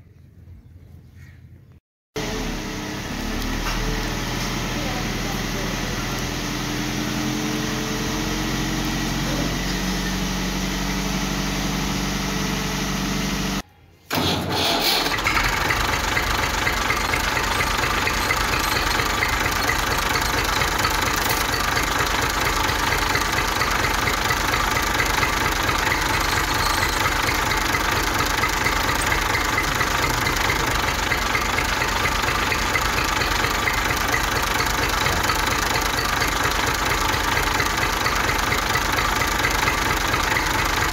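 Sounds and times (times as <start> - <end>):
engine running with chugging pulse: 2.2 - 40.9.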